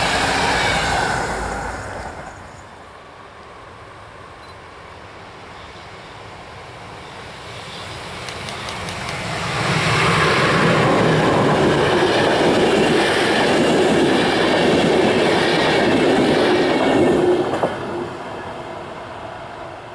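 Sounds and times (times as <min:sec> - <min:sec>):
passenger train passing: 0:00.0 - 0:19.9.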